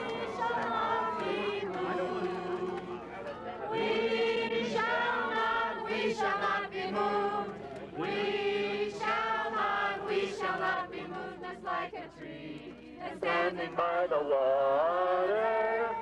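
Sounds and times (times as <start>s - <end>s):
crowd singing in unison: 0.0s - 16.0s.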